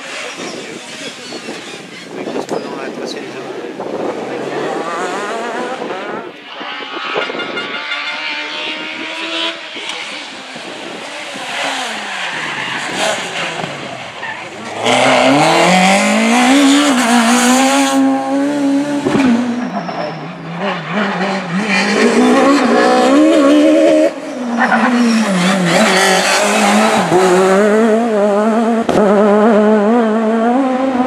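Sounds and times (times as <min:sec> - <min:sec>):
tyre and road noise: 0:00.0 - 0:31.0
high-revving car engine: 0:03.8 - 0:31.0.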